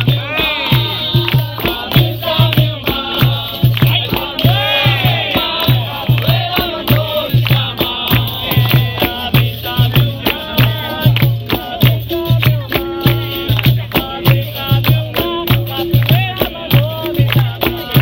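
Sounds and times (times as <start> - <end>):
hand percussion: 0.0 - 18.0
voices singing: 0.0 - 18.0.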